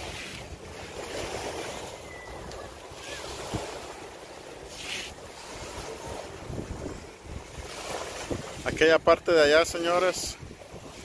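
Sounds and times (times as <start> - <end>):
wind buffeting microphone: 0.0 - 4.3, 5.2 - 11.0.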